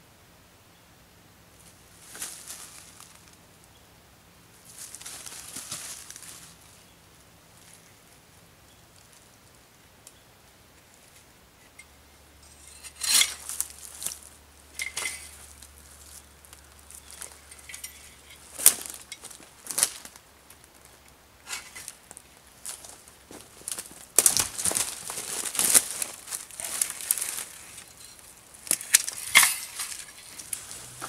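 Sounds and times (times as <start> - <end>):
rustling through undergrowth: 1.5 - 3.8, 4.5 - 31.0.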